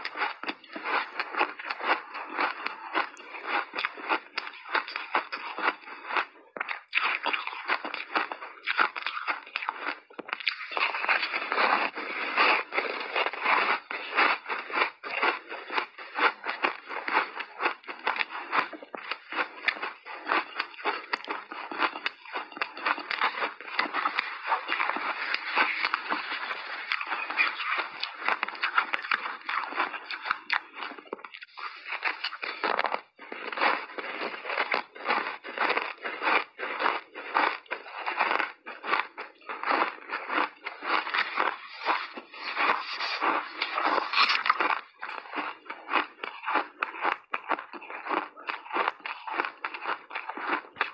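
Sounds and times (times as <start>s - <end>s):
ice crunching while chewed: 0.0s - 50.9s.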